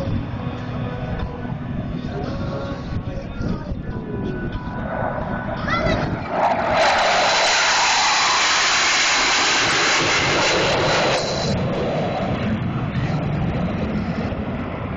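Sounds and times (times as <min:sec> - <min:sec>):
jet passing with high whine: 0:00.0 - 0:14.9.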